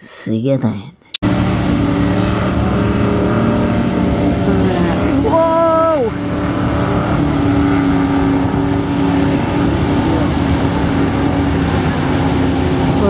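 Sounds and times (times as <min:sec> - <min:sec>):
dense rushing noise: 0:01.2 - 0:13.0
powerboat engines droning: 0:01.2 - 0:13.0.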